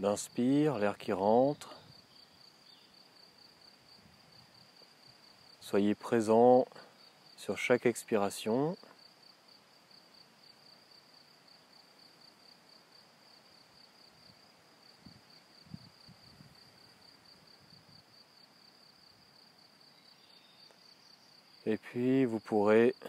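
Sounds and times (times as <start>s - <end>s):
faint insect chirping: 0.0s - 23.0s.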